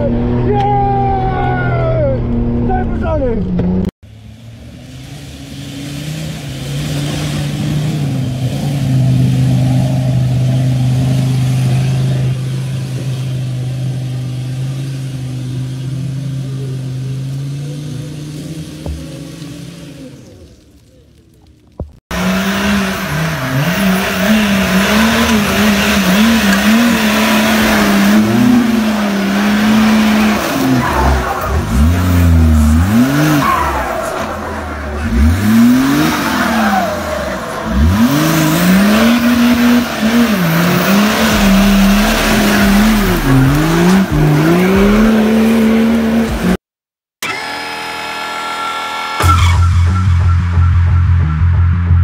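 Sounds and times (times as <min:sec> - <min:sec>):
engine revving: 0:03.4 - 0:20.7, 0:22.1 - 0:52.0.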